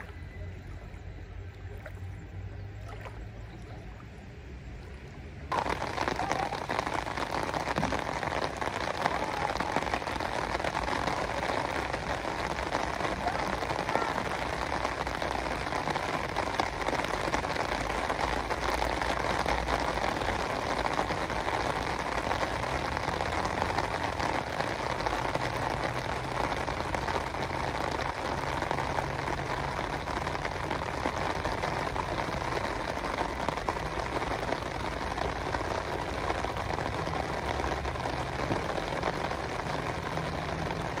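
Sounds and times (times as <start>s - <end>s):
rain falling on water: 0.0s - 41.0s.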